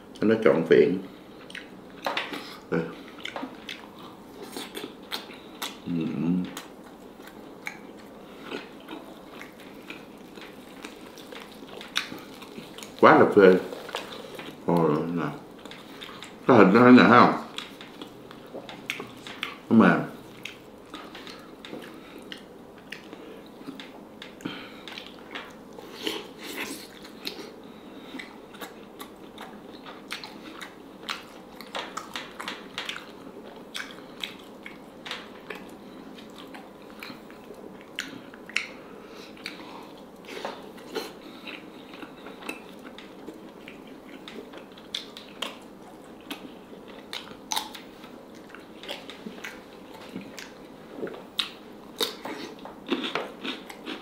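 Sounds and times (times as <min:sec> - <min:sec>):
chewing and biting chicken: 0:01.3 - 0:16.4, 0:20.2 - 0:54.0.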